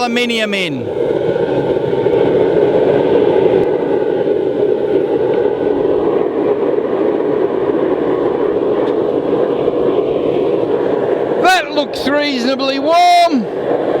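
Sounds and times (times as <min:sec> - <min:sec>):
oil burner roaring: 0:00.9 - 0:14.0.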